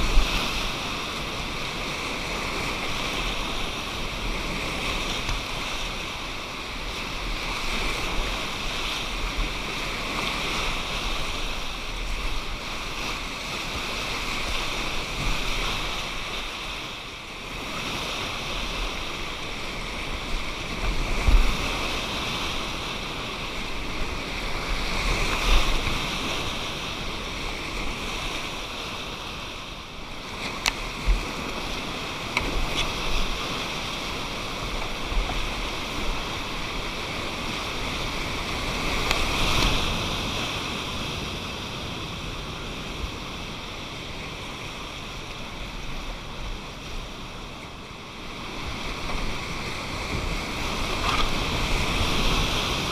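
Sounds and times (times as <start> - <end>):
river whitewater rushing: 0.0 - 52.9.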